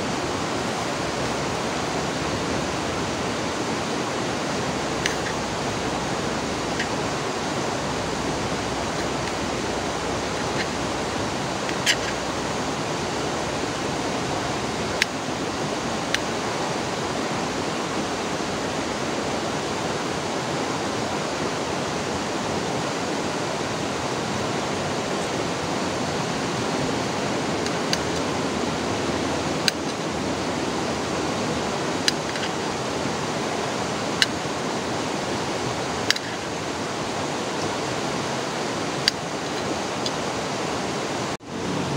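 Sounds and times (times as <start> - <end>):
river flowing: 0.0 - 41.9.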